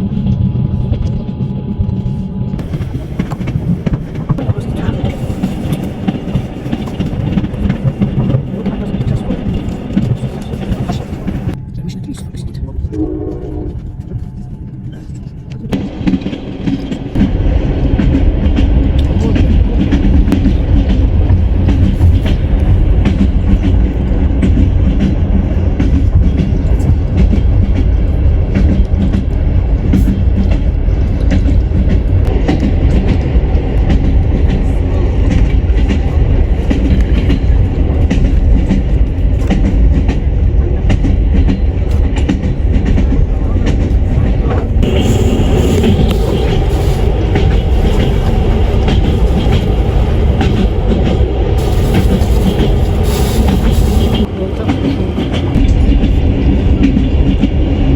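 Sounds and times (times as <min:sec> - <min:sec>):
train wheels clattering on rails: 0:00.1 - 0:11.6, 0:13.7 - 0:57.9.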